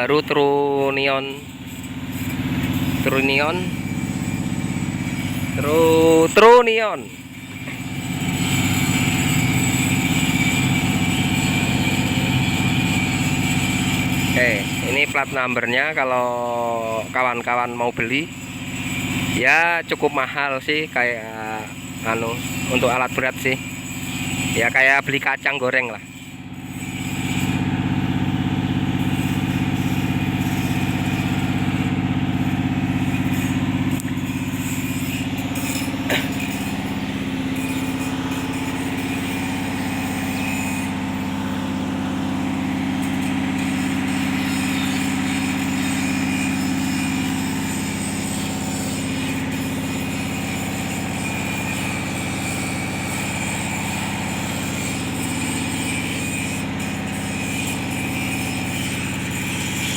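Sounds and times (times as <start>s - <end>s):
engine running with low hum: 0.0s - 15.2s, 26.1s - 59.9s.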